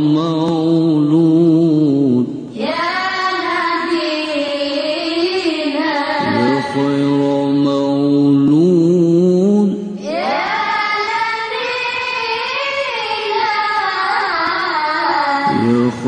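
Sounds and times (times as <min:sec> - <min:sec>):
person singing chant-like melody: 0:00.0 - 0:16.0.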